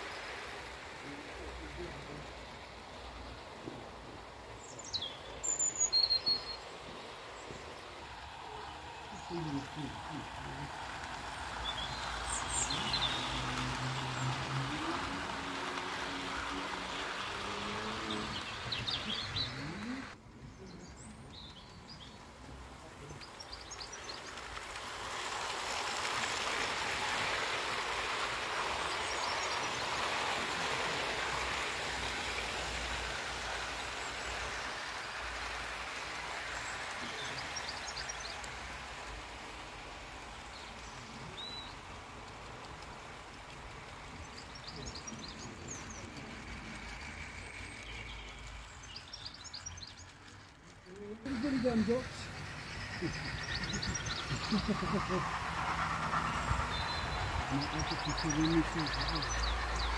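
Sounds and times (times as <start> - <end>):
model train wheels hissing on rails: 0.0 - 20.2, 20.8 - 59.9
birds chirping: 0.0 - 26.4, 27.8 - 39.2, 40.4 - 59.9.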